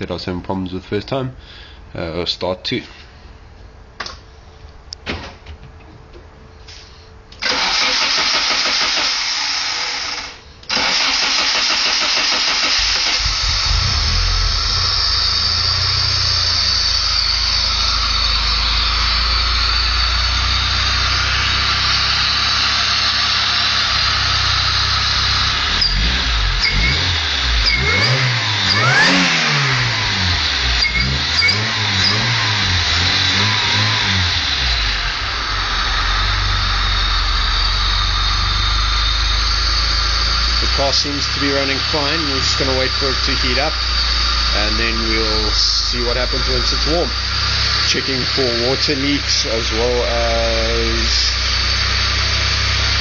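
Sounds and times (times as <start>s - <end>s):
car engine cranking: 7.3s - 53.0s
car engine idling and revving: 7.4s - 53.0s.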